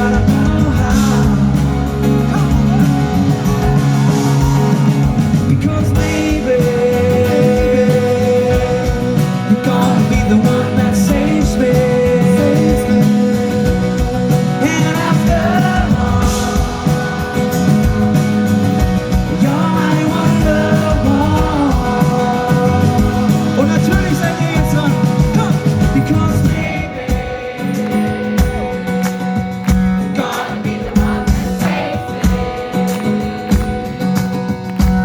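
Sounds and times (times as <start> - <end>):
person singing: 0.0 - 29.0
acoustic guitar strummed: 0.0 - 35.0.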